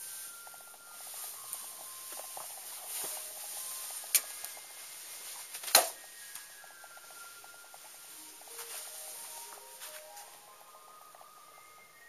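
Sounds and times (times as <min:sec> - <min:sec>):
rabbit paws on tile floor: 0:00.0 - 0:11.3.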